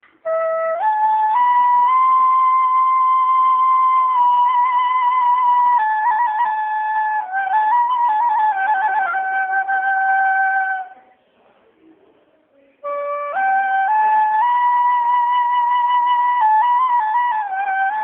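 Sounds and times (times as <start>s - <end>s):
slow flute melody: 0.0s - 11.0s, 12.8s - 18.0s.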